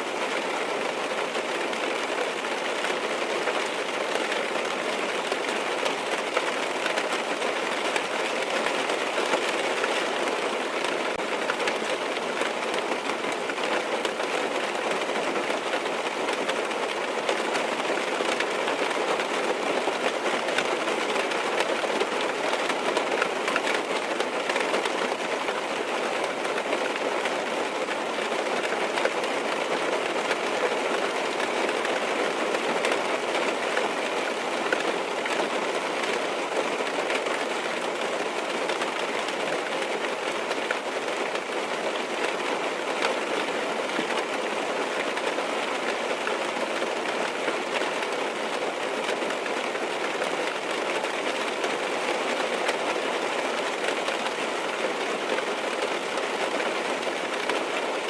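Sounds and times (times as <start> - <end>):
rain on car roof: 0.0 - 58.0.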